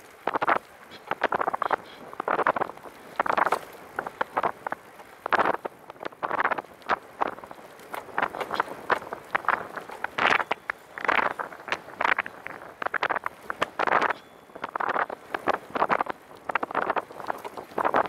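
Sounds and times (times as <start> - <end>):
clicks and rattles from trike: 0.0 - 18.0
wind buffeting microphone: 0.0 - 18.0.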